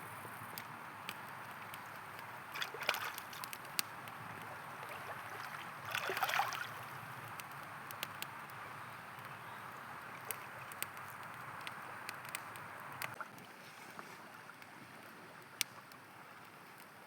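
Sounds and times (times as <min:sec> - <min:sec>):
river running: 0:00.0 - 0:16.7
campfire crackling: 0:00.0 - 0:17.0.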